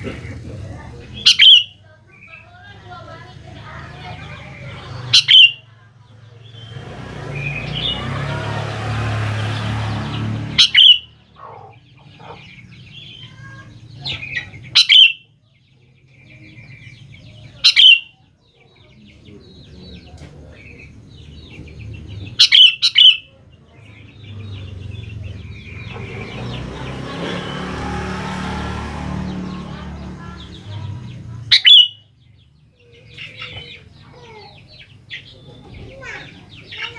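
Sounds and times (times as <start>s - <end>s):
bulbul sharp calls: 0.0s - 8.1s, 10.0s - 28.2s, 29.2s - 36.9s.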